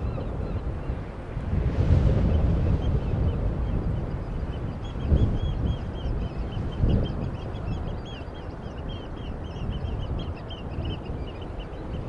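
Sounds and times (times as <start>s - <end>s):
seabirds calling: 2.3s - 12.0s.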